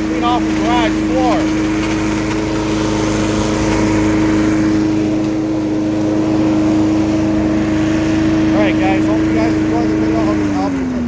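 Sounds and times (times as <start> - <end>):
leaf vacuum engine humming: 0.0 - 11.0.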